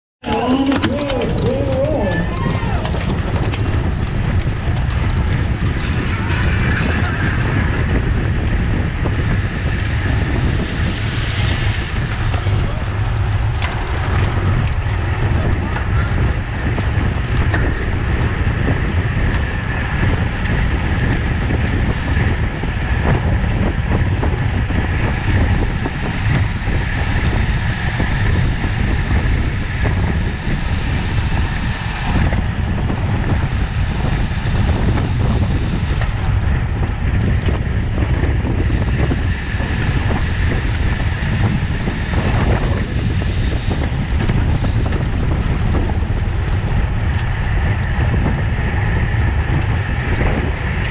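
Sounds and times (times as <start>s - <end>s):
wind buffeting microphone: 0.2s - 50.9s.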